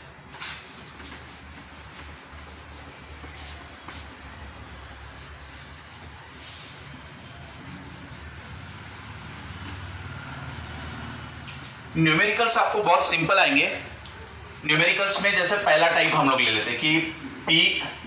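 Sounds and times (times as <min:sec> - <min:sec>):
duster rubbing whiteboard: 0:00.4 - 0:16.2.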